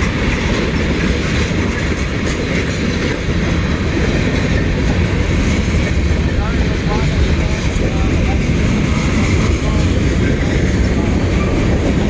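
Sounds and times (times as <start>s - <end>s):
freight train wheels rumbling: 0.0s - 12.0s
wheels clicking over rail joints: 0.0s - 12.0s.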